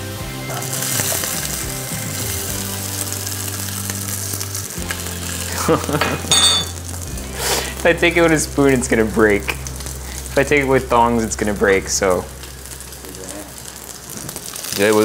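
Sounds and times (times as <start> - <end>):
food sizzling in a skillet: 0.0 - 15.0.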